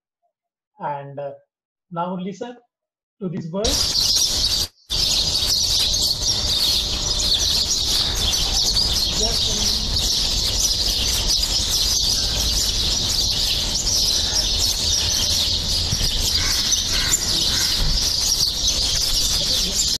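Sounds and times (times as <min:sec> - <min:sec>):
bird rapid high chirping: 0:03.2 - 0:20.0.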